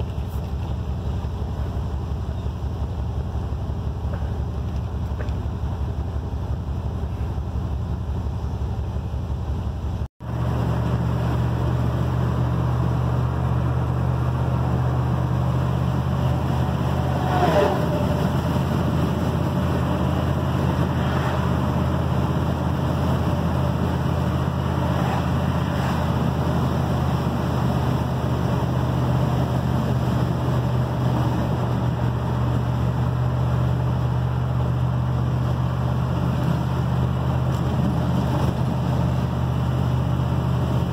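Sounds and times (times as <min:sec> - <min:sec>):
road noise: 0:00.0 - 0:40.9
truck engine drone inside cab: 0:00.0 - 0:40.9.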